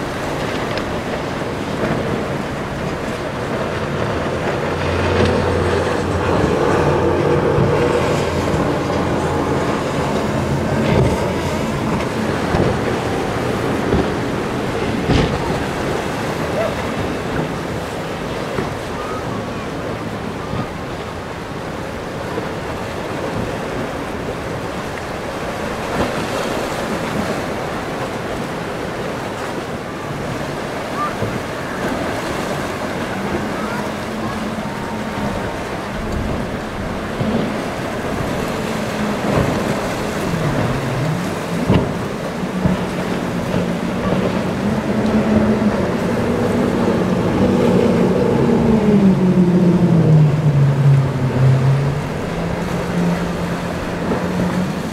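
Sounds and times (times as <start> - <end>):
boat engine passing: 0.0 - 54.9
surf and boat wake: 0.0 - 54.9
wind buffeting microphone: 0.0 - 54.9.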